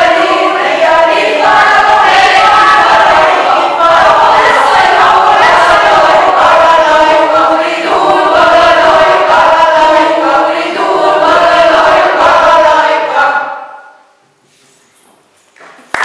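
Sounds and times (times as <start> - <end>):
mixed choir singing: 0.0 - 14.0.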